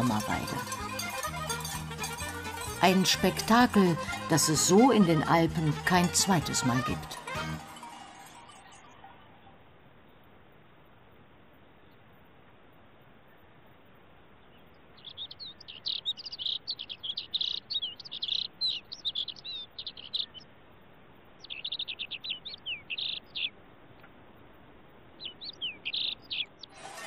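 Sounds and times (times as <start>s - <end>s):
songbird chirping: 0.0s - 10.3s, 14.3s - 27.0s.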